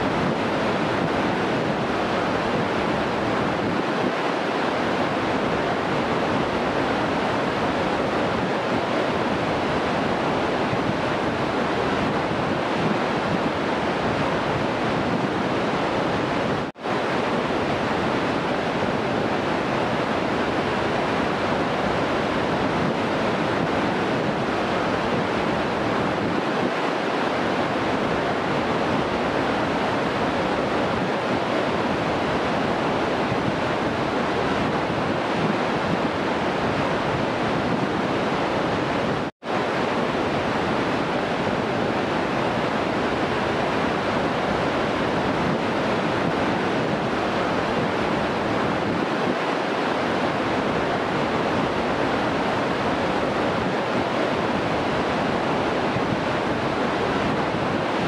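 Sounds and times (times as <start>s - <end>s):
waterfalls and whitewater rushing: 0.0s - 58.0s.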